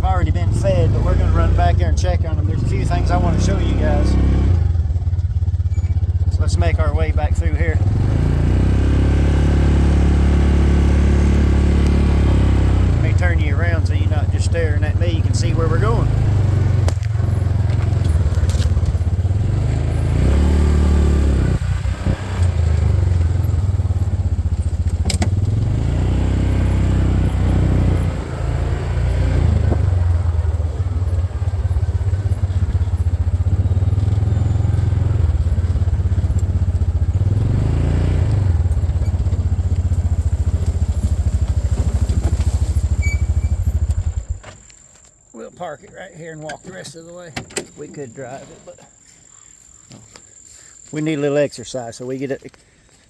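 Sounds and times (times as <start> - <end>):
vehicle body parts rattling: 0.0 - 8.0, 10.7 - 50.9
utility vehicle engine drone: 0.0 - 44.6.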